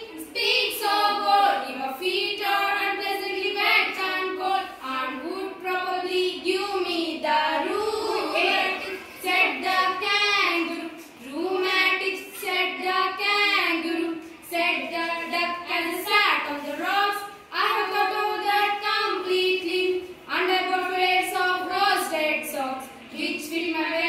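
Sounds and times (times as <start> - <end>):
girls singing: 0.0 - 24.0.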